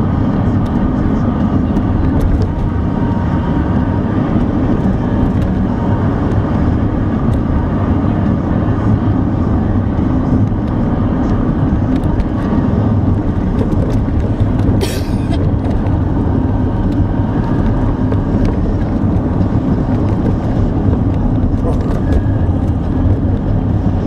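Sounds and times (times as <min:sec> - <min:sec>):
car engine hum: 0:00.0 - 0:24.0
tyre and road noise: 0:00.0 - 0:24.0.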